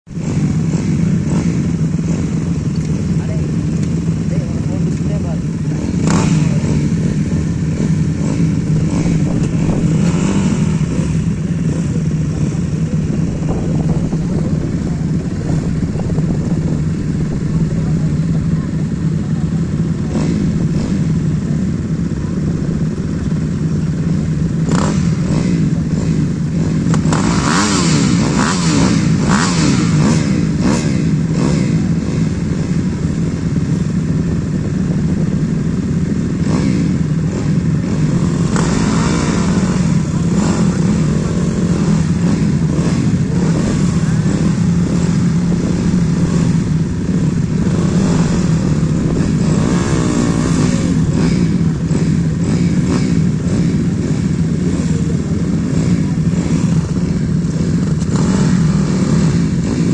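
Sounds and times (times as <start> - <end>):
dirt bike engines idling: 0.0 - 59.9
engine throttle blips: 0.0 - 59.9.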